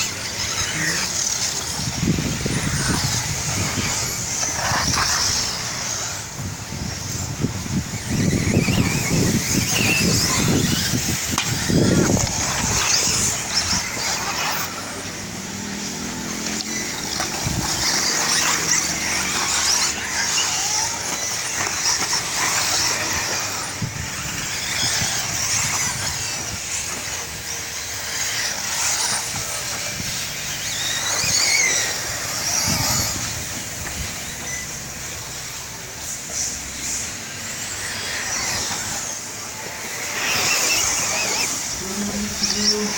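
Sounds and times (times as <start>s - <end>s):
electric motors whining: 0.0s - 42.9s
tyre and track hiss: 0.0s - 42.9s.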